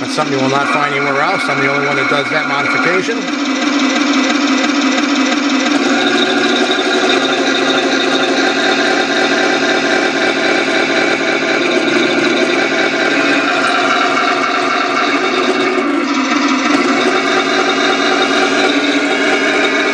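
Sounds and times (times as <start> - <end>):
simulated tank engine from speaker: 0.0 - 19.9.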